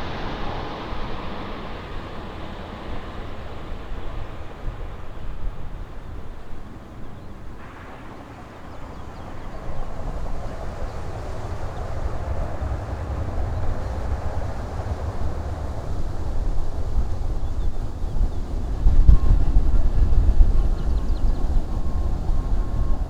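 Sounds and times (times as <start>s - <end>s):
jet engine rumble and rush: 0.0s - 23.0s.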